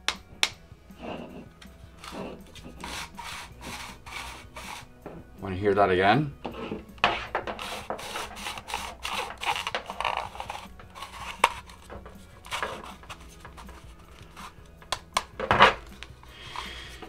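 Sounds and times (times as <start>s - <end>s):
plastic housing creaking and scraping: 1.0s - 5.3s, 6.4s - 17.0s.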